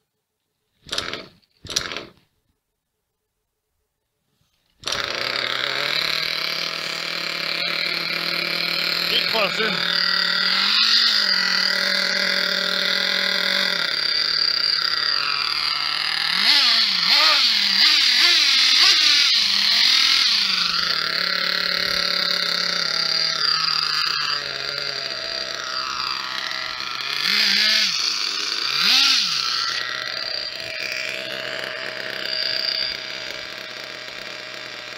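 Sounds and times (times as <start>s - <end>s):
small nitro engine idling and revving: 0.8s - 2.2s, 4.8s - 34.9s.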